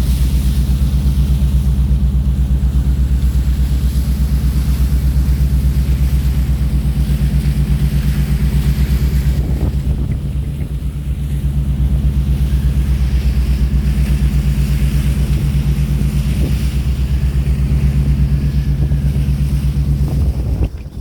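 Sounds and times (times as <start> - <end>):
engine running steadily: 0.0 - 21.0
water hiss: 0.0 - 21.0
wind hiss: 3.4 - 21.0.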